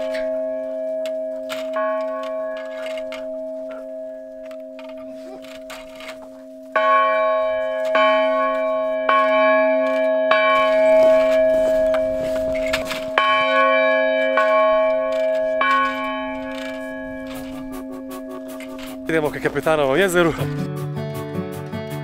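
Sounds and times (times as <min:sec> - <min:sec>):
bell tones: 0:00.0 - 0:20.5
steady held chord: 0:00.0 - 0:21.0.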